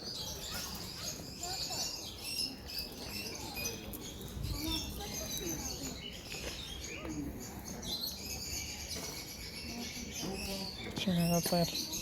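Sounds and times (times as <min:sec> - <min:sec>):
faint voices of people: 0:00.0 - 0:12.0
small birds chirping and twittering: 0:00.0 - 0:12.0.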